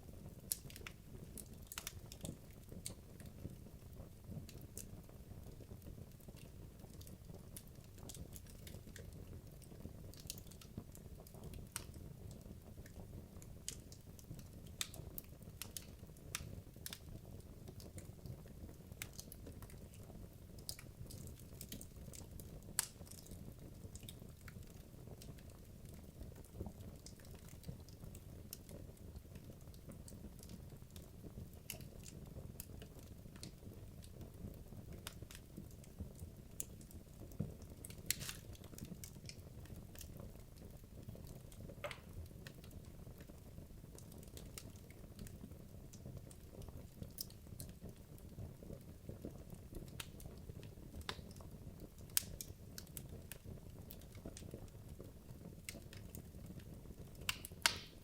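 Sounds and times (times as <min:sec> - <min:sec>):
fire crackles and pops: 0:00.0 - 0:58.0
logs burning in fireplace: 0:00.0 - 0:58.0.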